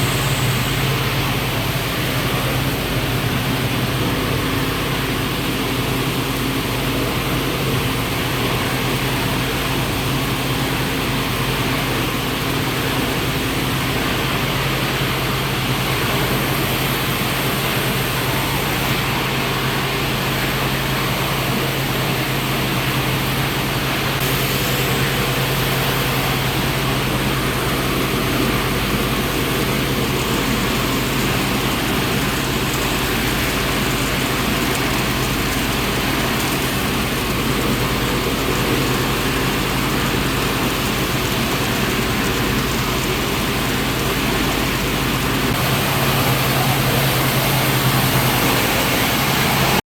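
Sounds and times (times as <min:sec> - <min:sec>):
recycling machinery running: 0:00.0 - 0:49.8.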